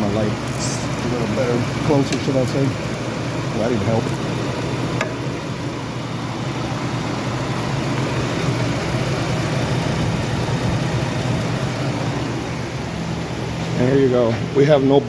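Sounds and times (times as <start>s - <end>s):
car engine idling and misfiring: 0.0s - 15.0s.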